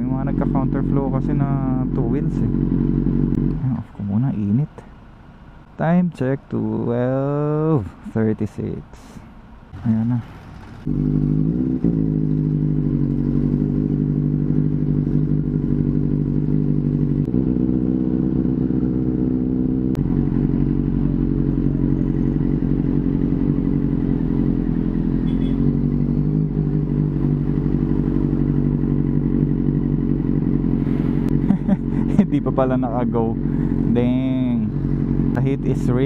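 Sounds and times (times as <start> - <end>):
motorcycle engine at low revs: 0.0 - 8.5, 9.7 - 36.0.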